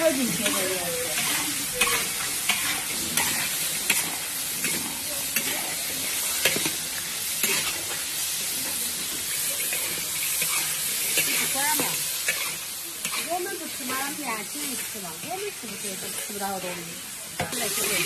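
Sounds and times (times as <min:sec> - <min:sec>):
metal spatula scraping wok: 0:00.0 - 0:08.0, 0:08.6 - 0:18.0
food sizzling in a wok: 0:00.0 - 0:18.0.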